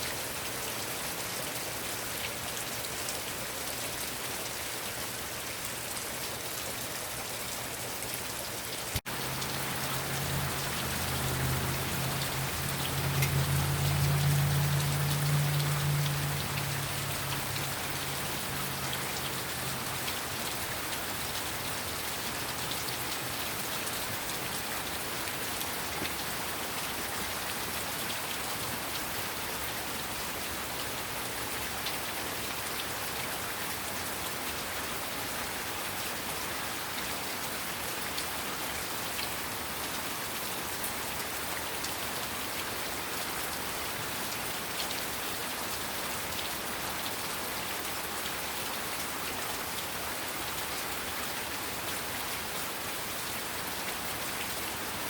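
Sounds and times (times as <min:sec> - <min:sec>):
heavy rain hiss: 0:09.0 - 0:55.0.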